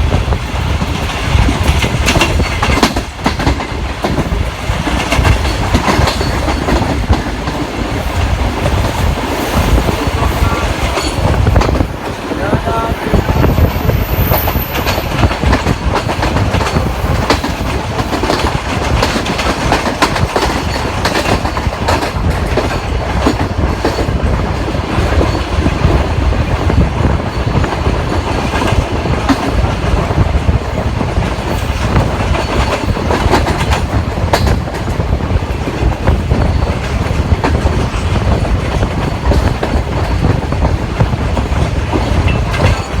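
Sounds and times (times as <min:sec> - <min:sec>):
train rumbling on rails: 0:00.0 - 0:43.0
wheels clicking over rail joints: 0:00.1 - 0:12.4, 0:14.5 - 0:43.0.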